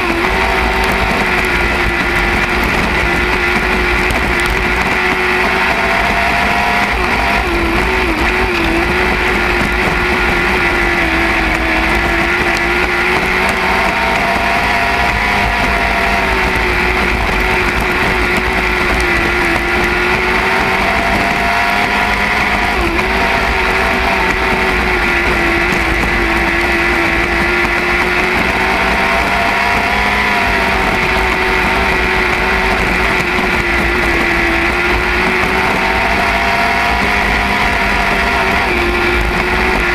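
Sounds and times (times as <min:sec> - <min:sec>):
racing car engine: 0:00.0 - 0:39.9.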